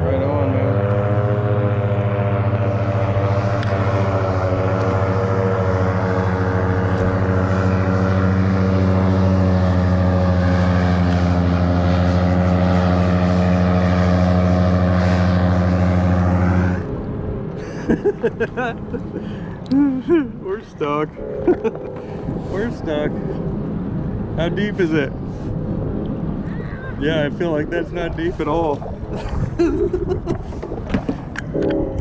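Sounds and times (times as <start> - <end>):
airboat engine and propeller: 0.0 - 32.0.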